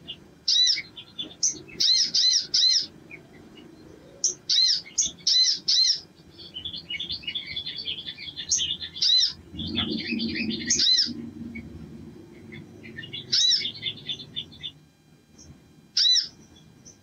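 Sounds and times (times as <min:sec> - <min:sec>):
loud arched bird notes: 0:00.0 - 0:14.8, 0:15.4 - 0:17.0
bird twittering: 0:00.0 - 0:17.0.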